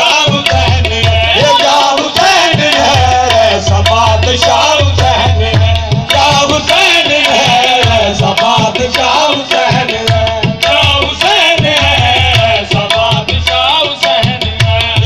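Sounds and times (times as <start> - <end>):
harmonium: 0.0 - 15.0
man singing: 0.0 - 15.0
tabla beat: 0.0 - 15.0.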